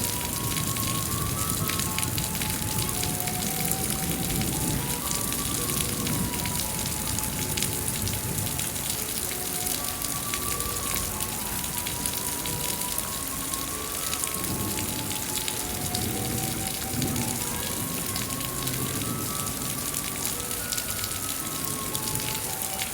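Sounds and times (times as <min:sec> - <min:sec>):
slow soft melody: 0:00.0 - 0:22.9
steady rain falling: 0:00.0 - 0:22.9.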